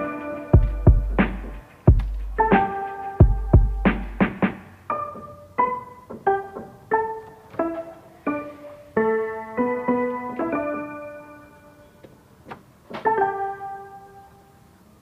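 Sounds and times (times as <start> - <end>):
piano music: 0.0 - 12.0, 13.0 - 14.6.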